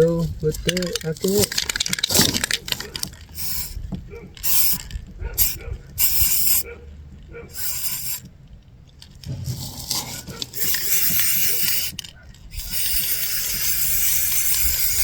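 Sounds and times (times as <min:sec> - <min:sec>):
spray paint can spraying: 0:00.5 - 0:03.8, 0:04.4 - 0:06.6, 0:07.5 - 0:08.3, 0:09.2 - 0:15.0.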